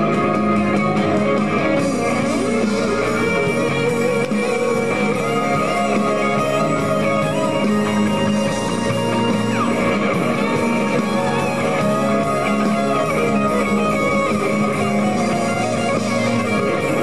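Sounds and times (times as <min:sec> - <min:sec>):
electric guitar bending melody: 0:00.0 - 0:17.0
live rock band playing: 0:00.0 - 0:17.0.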